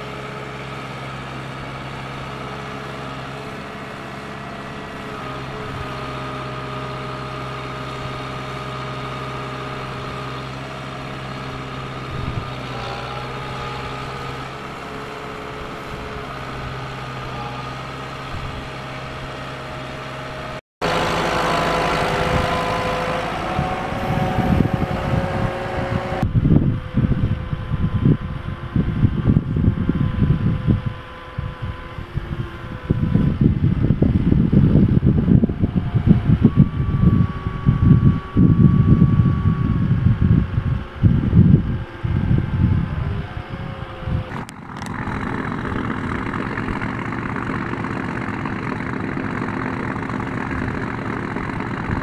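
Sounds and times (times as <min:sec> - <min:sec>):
tractor diesel engine running: 0:00.0 - 0:52.0
wind buffeting microphone: 0:02.0 - 0:19.5, 0:20.8 - 0:52.0.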